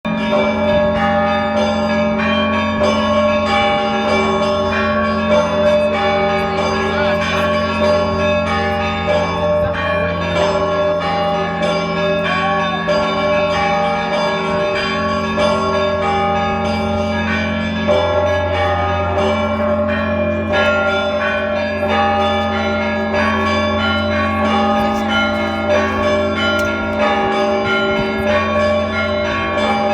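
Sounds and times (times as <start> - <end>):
deep church bells humming: 0.1 - 29.9.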